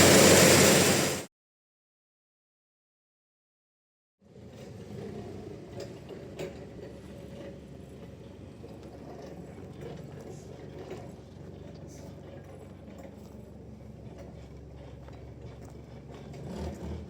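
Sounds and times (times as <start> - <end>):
sawmill machinery humming: 0.0 - 1.3, 4.3 - 17.0.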